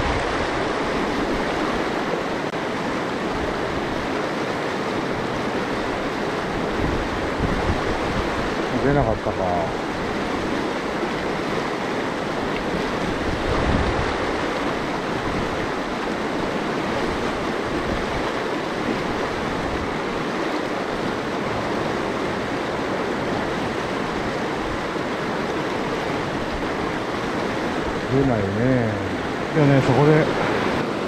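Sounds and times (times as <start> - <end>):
stream rushing over rocks: 0.0 - 31.0
wind buffeting microphone: 4.9 - 9.1, 9.7 - 31.0.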